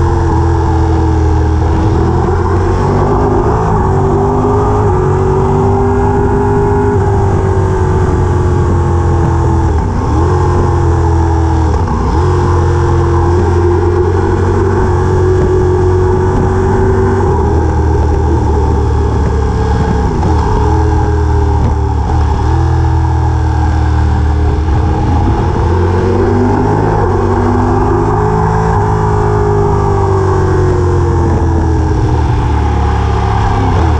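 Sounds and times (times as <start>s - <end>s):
vehicle engine running under load: 0.0s - 33.9s.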